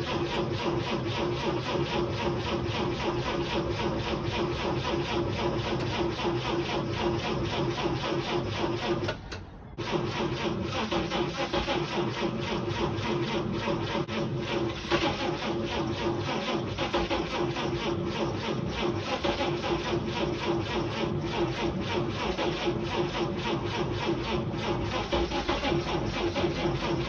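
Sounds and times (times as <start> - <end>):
engine cranking on starter: 0.0 - 27.0.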